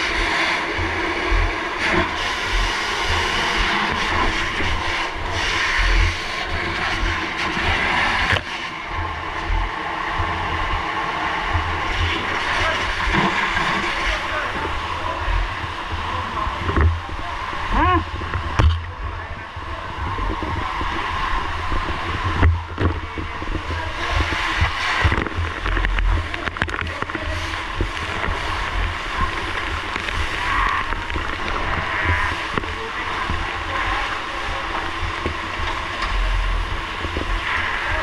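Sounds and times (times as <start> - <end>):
water rushing and gurgling: 0.0 - 38.0.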